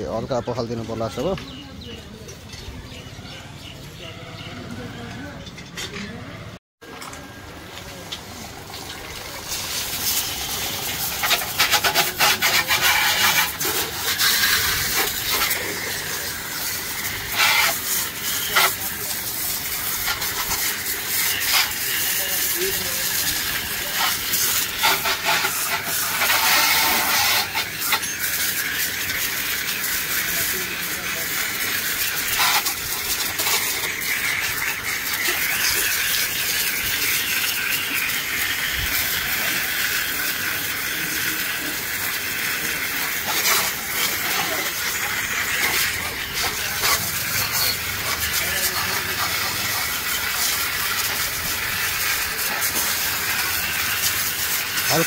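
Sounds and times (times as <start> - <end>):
water spray hissing: 7.5 - 55.0.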